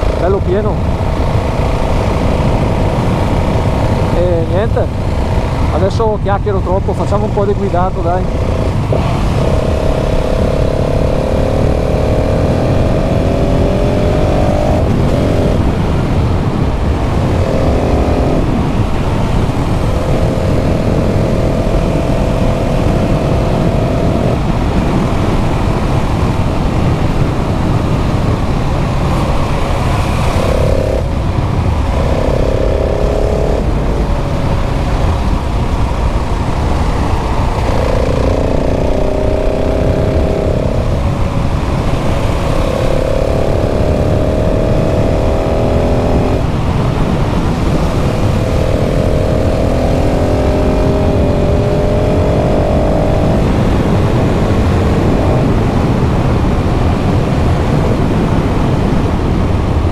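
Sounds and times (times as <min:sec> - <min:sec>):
motorcycle engine accelerating: 0:00.0 - 0:59.9
wind rush on microphone: 0:00.0 - 0:59.9.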